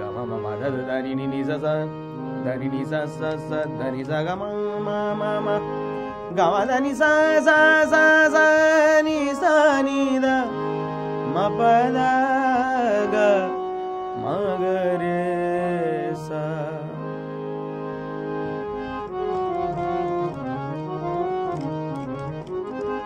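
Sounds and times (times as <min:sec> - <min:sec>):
harmonium playing chords: 0:00.0 - 0:23.0.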